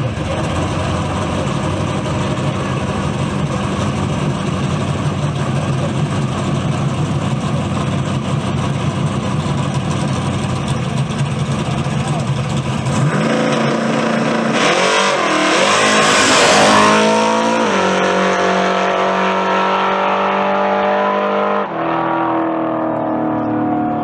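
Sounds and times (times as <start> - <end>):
drag car engine accelerating: 0.0 - 24.0.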